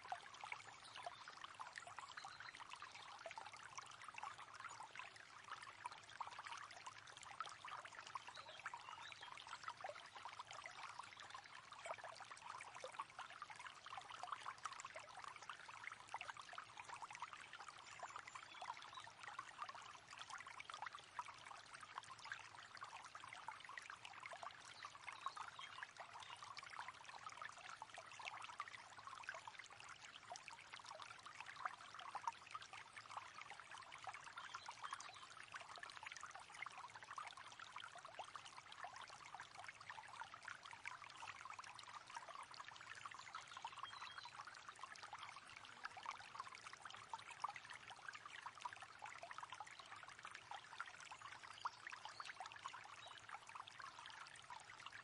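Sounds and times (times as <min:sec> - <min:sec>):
small river babbling over stones: 0:00.0 - 0:55.0.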